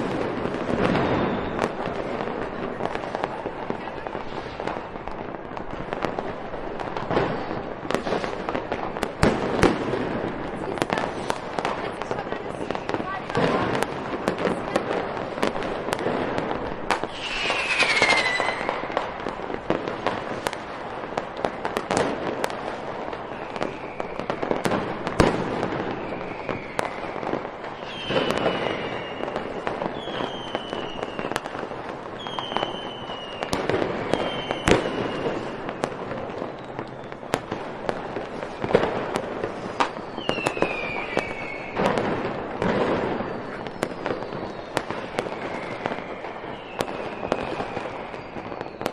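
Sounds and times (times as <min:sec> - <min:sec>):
whistling rockets: 0:00.0 - 0:04.9, 0:07.0 - 0:10.0, 0:10.7 - 0:20.7, 0:22.6 - 0:48.9
fireworks bangs and crackles: 0:00.0 - 0:48.9.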